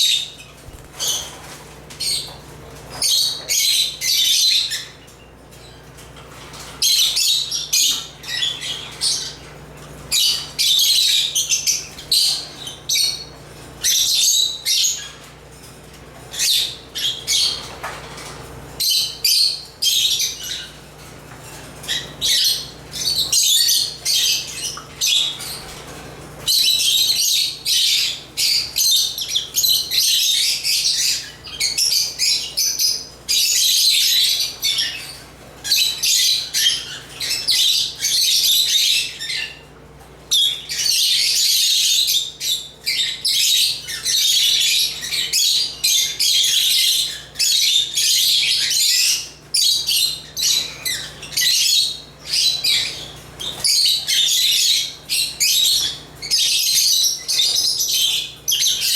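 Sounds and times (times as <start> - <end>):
lovebirds chirping and chattering: 0.0 - 58.9.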